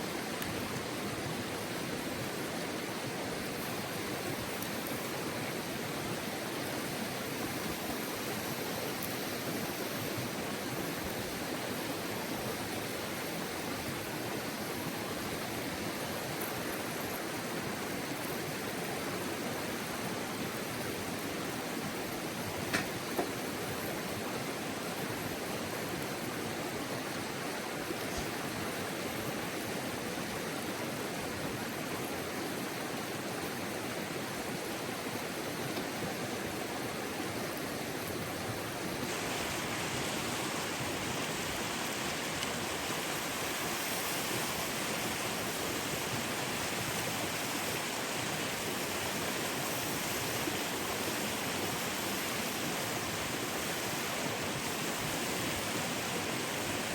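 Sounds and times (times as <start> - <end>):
mountain river rushing: 0.0 - 56.9.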